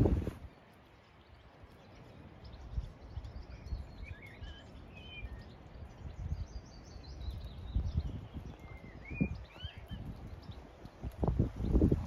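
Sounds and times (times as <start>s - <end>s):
wind buffeting microphone: 0.0s - 0.5s, 1.6s - 12.0s
songbirds chirping: 0.0s - 12.0s.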